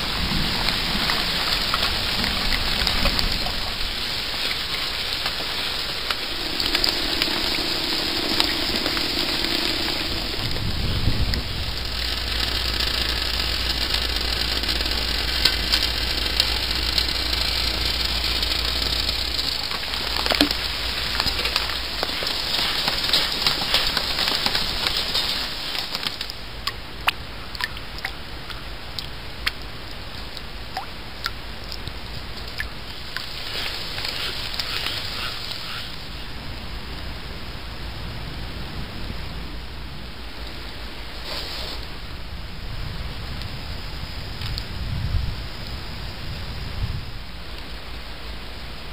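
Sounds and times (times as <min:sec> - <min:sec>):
low steady rumble: 0:00.0 - 0:41.2
rain pattering: 0:00.0 - 0:48.9.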